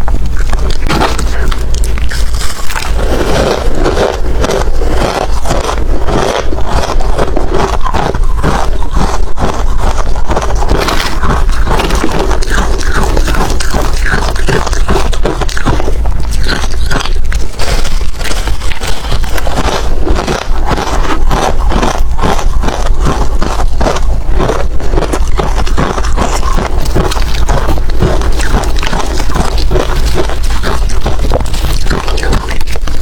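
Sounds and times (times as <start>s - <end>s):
ice crunching while chewed: 0.0s - 33.0s.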